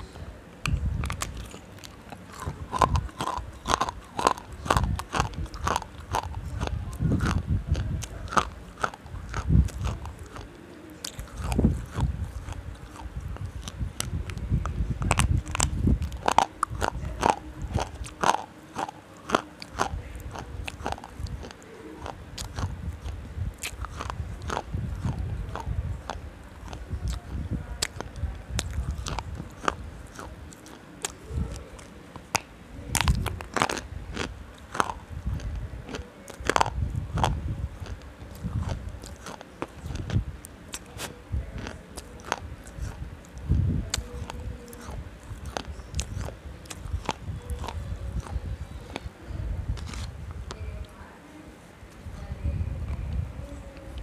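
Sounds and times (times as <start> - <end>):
low chewing: 0.0 - 54.0.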